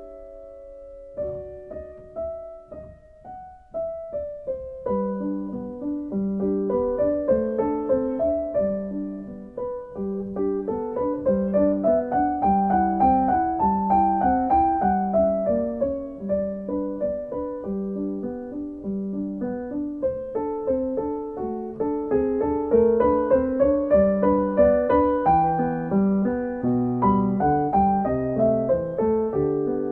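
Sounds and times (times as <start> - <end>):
solo piano music: 0.0 - 29.9.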